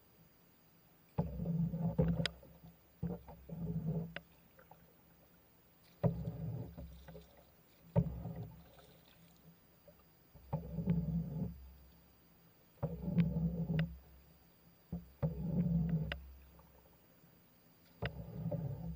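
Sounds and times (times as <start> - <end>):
paddle strokes in water: 0.0 - 18.9.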